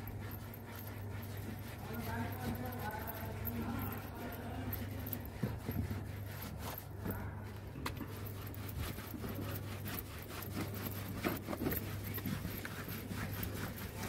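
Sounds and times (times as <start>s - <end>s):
cloth scrubbing fabric: 0.0s - 14.0s
steady low hum: 0.0s - 14.0s.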